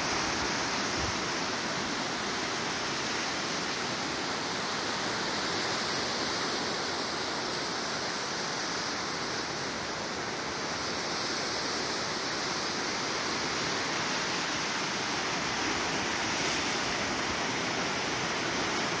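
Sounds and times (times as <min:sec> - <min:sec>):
waves breaking on shore: 0:00.0 - 0:19.0.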